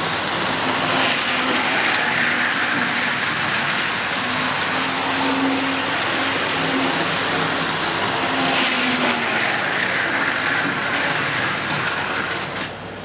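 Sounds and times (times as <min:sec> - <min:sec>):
model train running on track: 0:00.0 - 0:13.0.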